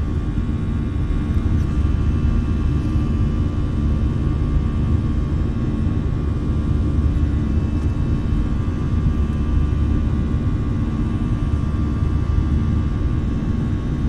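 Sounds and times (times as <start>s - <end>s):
faint steady whine: 0.0s - 14.0s
jet airliner cabin rumble: 0.0s - 14.0s.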